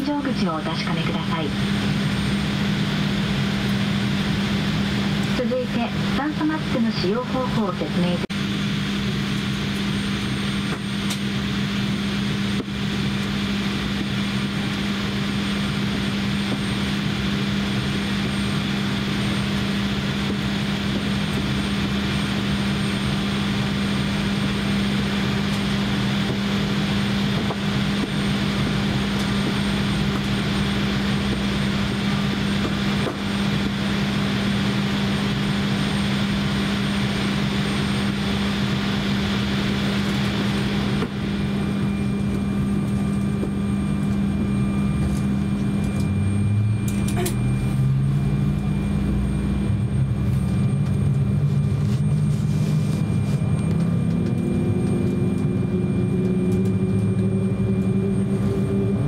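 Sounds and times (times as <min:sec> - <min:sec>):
aircraft cabin drone: 0:00.0 - 0:59.0.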